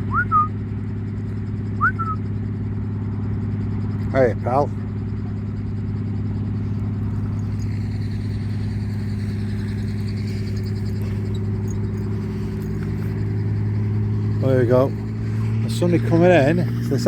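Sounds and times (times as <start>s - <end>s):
helicopter engine and rotor hum: 0.0s - 17.0s.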